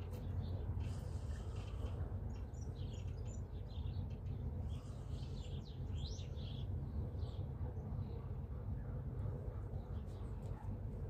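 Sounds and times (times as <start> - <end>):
small birds chirping: 0.0 - 8.9.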